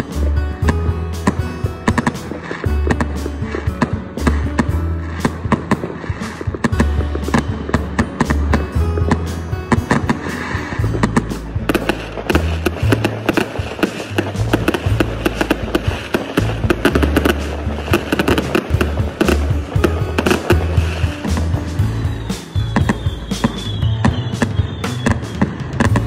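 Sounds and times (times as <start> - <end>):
fireworks crackles and bangs: 0.0 - 26.0
music with deep bass line: 0.0 - 26.0.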